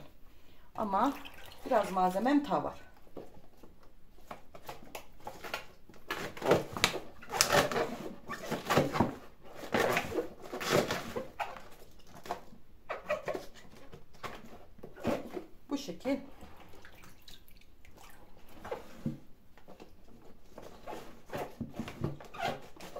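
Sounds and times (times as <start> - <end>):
vegetables rustling and knocking: 1.5 - 15.6, 18.2 - 22.9.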